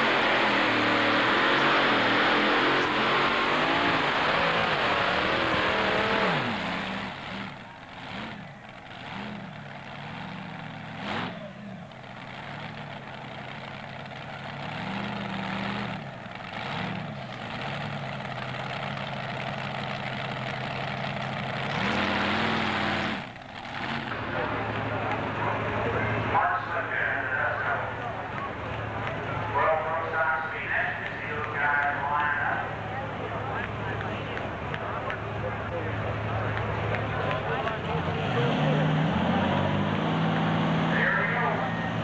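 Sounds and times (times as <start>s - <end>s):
engine revving and idling: 0.0s - 42.0s
tractor engine at full throttle: 0.0s - 42.0s.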